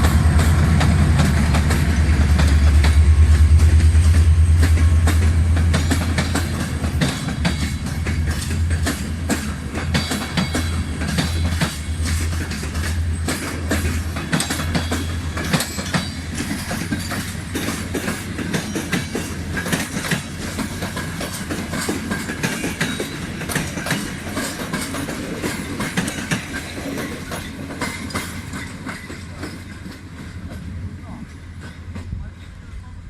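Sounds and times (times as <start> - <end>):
train wheels clicking over rail joints: 0.0 - 32.4.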